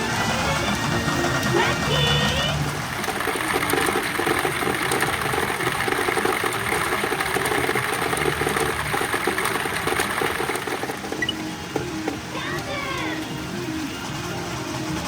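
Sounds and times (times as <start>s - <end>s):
pachinko machines rattling: 0.0s - 15.0s.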